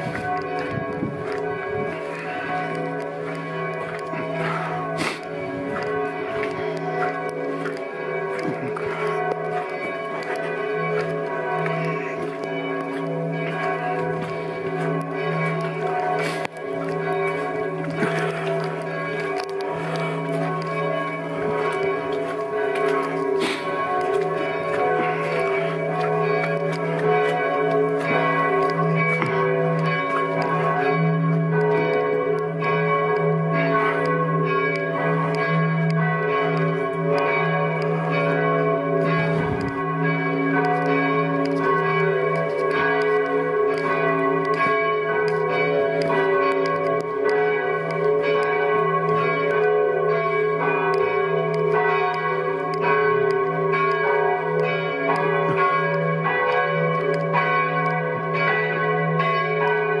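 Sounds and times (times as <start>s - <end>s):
church bells ringing: 0.0s - 60.0s.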